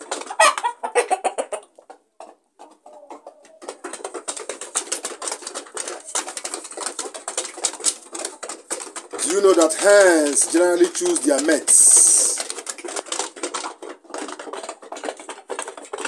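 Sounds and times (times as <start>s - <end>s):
chickens pecking beaks tapping: 0.0s - 16.0s.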